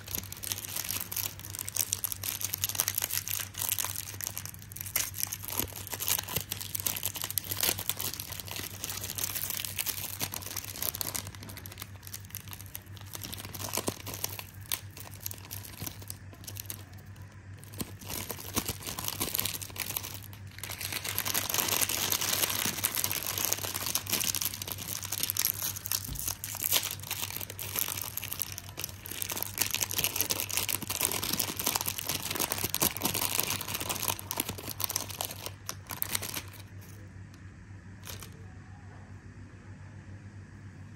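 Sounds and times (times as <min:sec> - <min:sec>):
snack wrappers crinkling and tearing: 0:00.0 - 0:37.0, 0:38.0 - 0:38.4.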